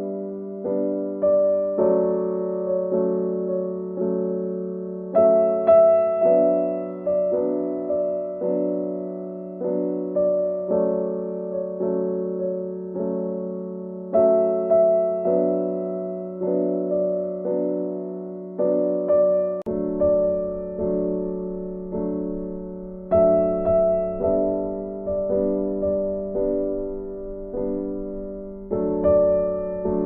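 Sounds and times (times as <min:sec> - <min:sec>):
electric piano music: 0:00.0 - 0:30.0.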